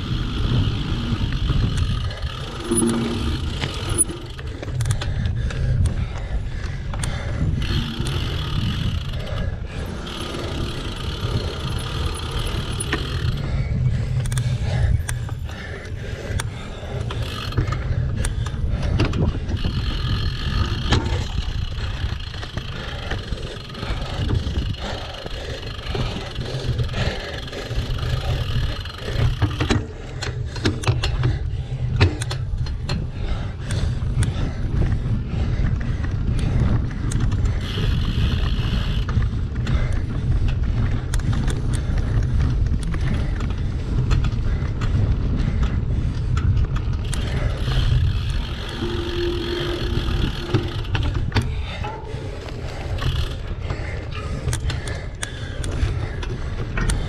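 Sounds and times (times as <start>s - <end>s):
bike clicks and rattles: 0.0s - 57.0s
wind buffeting microphone: 0.0s - 57.0s.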